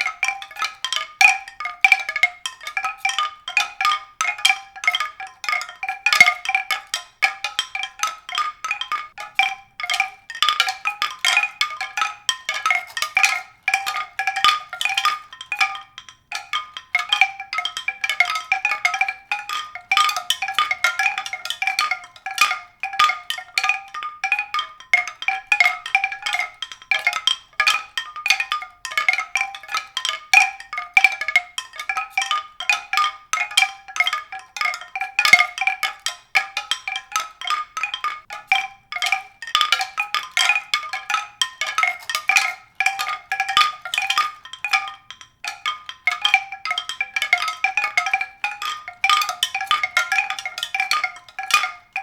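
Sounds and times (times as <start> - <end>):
high mallet percussion music: 0.0 - 52.0.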